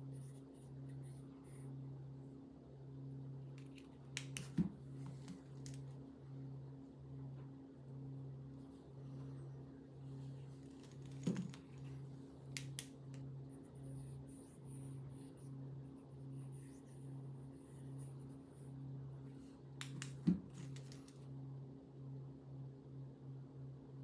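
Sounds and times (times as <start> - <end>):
faint low pulsing hum: 0.0 - 24.0.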